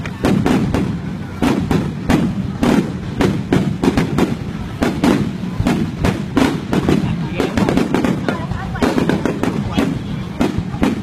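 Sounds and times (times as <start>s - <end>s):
fireworks shells bursting: 0.0s - 11.0s.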